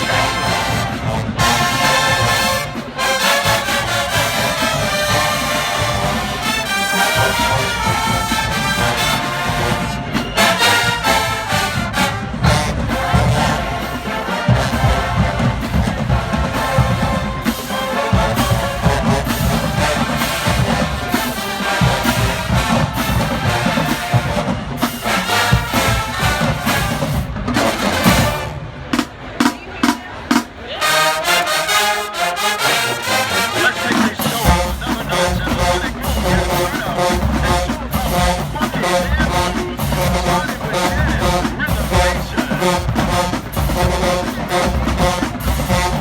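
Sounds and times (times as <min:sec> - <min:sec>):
marching band playing: 0:00.0 - 0:46.0.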